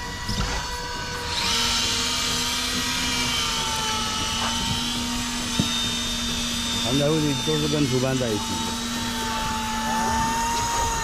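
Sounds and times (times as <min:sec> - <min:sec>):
electric fishing reel whirring: 0:00.0 - 0:11.0
low mechanical hum: 0:00.0 - 0:11.0.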